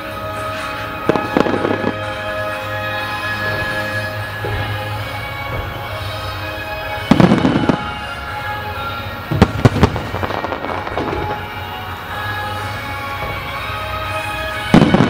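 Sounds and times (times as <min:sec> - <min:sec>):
fireworks booming: 0:00.0 - 0:15.0
fireworks sharp bangs: 0:00.0 - 0:15.0
music: 0:00.0 - 0:15.0.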